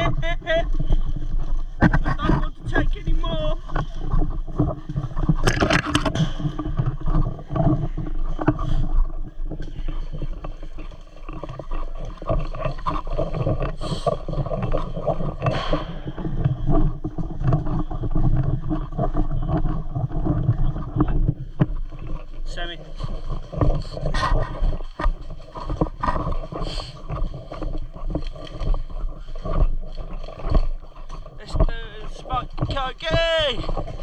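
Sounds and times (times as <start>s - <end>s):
rustling and handling noise: 0.0s - 34.0s.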